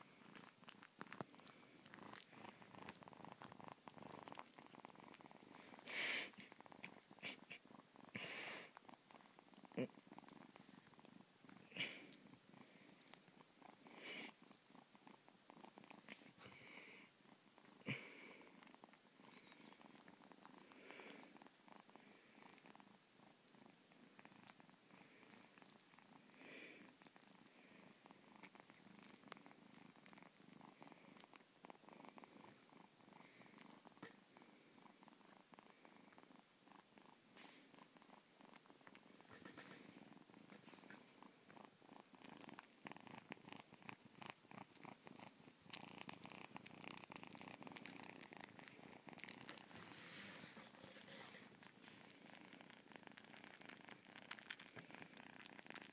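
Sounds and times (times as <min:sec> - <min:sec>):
kitten purring: 0:00.0 - 0:55.9.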